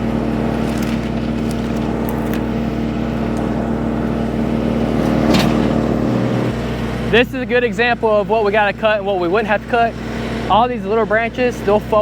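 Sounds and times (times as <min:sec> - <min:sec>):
wood chipper running: 0:00.0 - 0:12.0.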